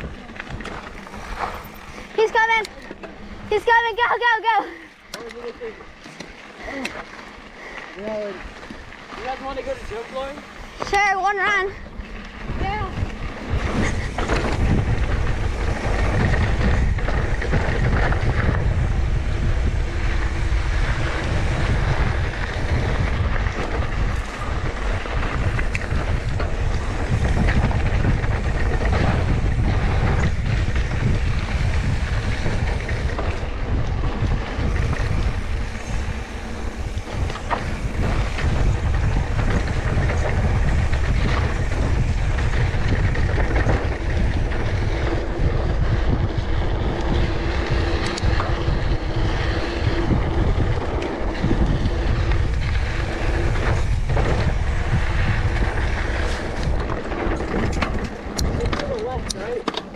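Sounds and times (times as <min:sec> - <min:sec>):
wind rushing over microphone: 0:00.0 - 0:05.8, 0:06.5 - 0:59.9
bike knocking and rattling: 0:00.0 - 0:59.9
bike tyres rolling on dirt: 0:00.0 - 0:59.9.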